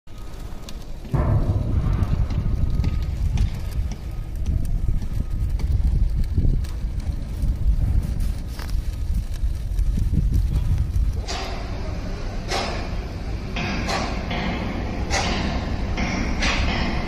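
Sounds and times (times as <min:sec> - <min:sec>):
wind buffeting microphone: 0:00.1 - 0:17.0.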